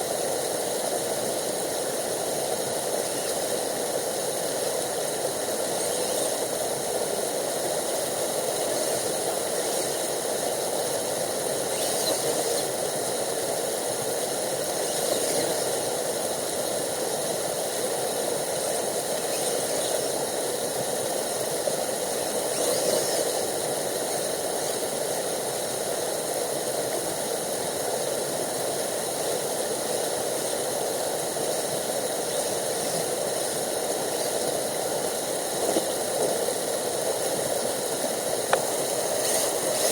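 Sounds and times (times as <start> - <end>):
faint high whine: 0.0 - 27.1, 29.2 - 39.9.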